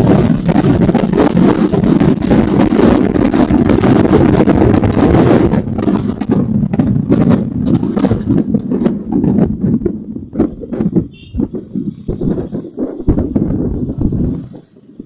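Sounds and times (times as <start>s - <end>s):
motorcycle engine rumbling: 0.0s - 15.0s
wind on microphone: 0.0s - 15.0s.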